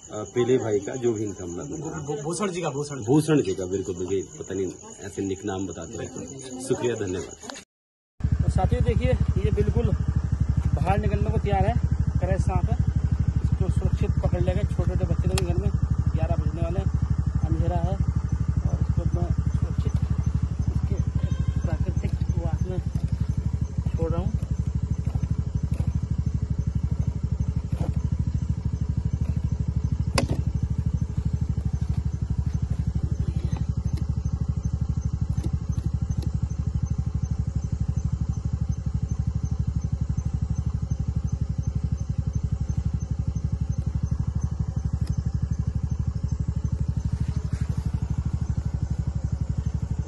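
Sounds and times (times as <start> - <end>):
engine idling: 0.0 - 7.6, 8.2 - 50.0.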